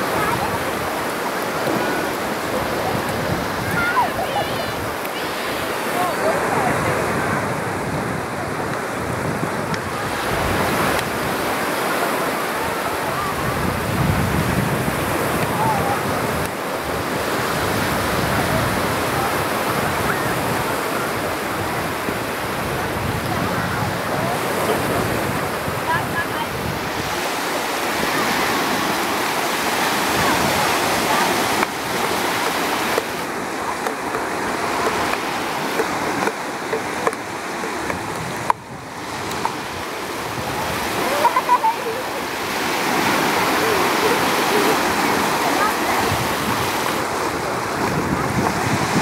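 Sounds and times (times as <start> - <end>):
sea surf on a beach: 0.0 - 49.0.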